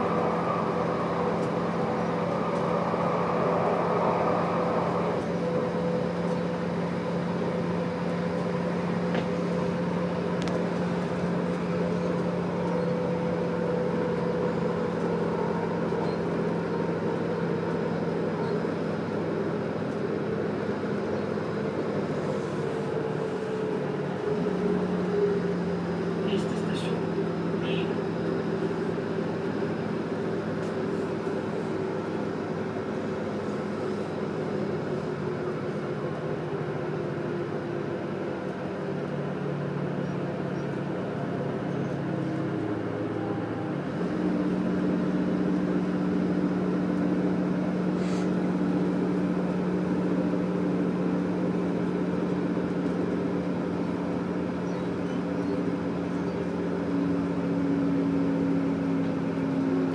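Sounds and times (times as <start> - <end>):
diesel engine drone: 0.0 - 59.9
train rumble inside carriage: 0.0 - 59.9.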